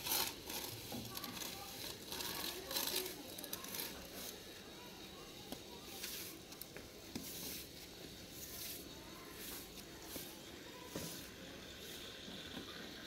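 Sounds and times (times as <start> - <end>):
broom sweeping concrete floor: 0.0 - 4.5, 5.2 - 12.4.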